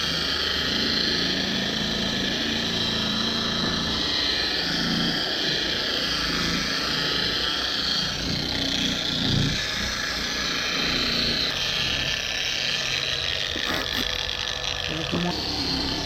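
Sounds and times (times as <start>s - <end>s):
orbital polisher running: 0.0s - 16.0s.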